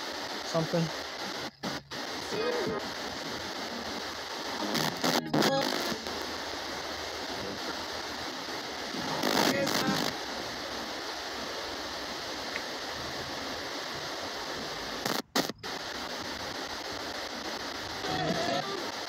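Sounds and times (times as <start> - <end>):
static hiss from radio scanner: 0.0 - 19.0.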